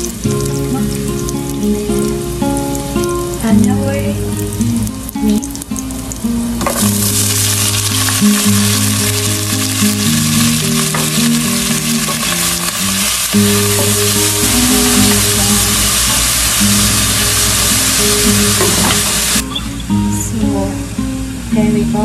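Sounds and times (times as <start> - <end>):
meat sizzling in hot oil: 0.0 - 19.8.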